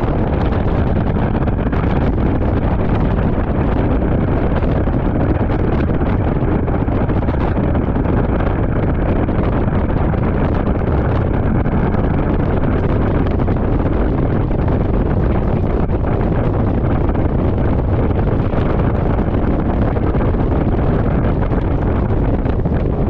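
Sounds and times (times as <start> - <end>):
motorcycle road noise: 0.0 - 23.0
wind rushing over microphone: 0.0 - 23.0.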